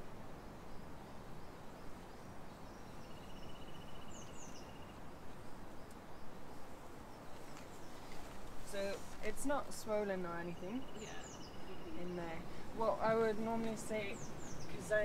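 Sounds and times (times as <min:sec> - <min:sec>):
small birds chirping: 0:00.0 - 0:15.0
steady low outdoor noise: 0:00.0 - 0:15.0.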